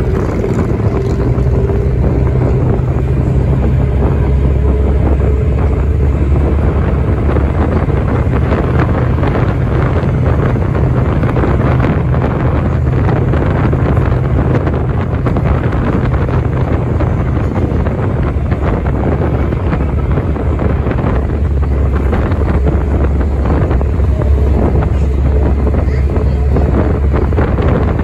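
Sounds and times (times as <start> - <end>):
bus engine and road noise: 0.0 - 28.0.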